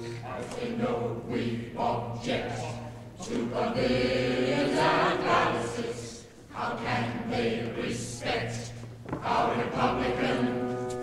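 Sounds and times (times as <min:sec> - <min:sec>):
mixed chorus singing: 0:00.0 - 0:11.0.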